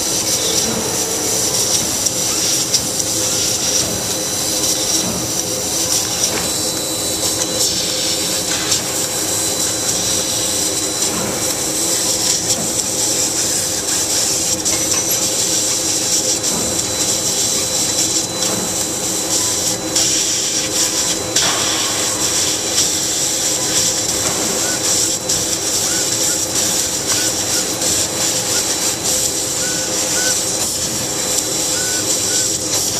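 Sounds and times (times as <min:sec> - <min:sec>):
laser cutter high hiss: 0:00.0 - 0:32.9
low mechanical hum: 0:00.0 - 0:32.9.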